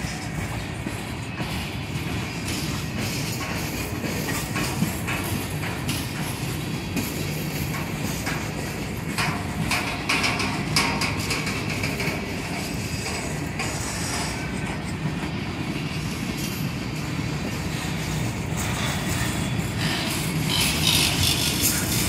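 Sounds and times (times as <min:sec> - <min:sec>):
train wheels clicking over rail joints: 0:00.0 - 0:22.0.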